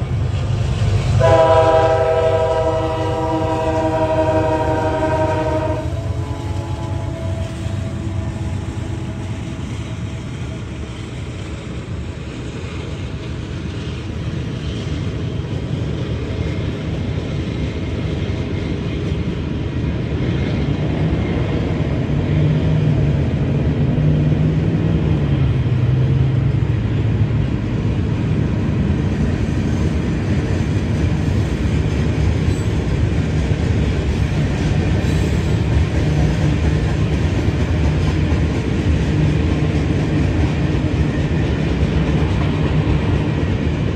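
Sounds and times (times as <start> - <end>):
freight train rumbling on rails: 0.0 - 43.9.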